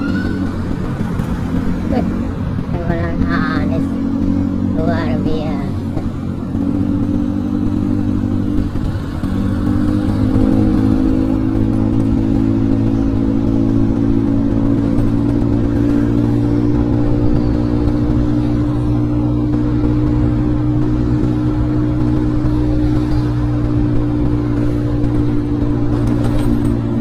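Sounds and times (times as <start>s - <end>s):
motor scooter engine running: 0.0s - 27.0s.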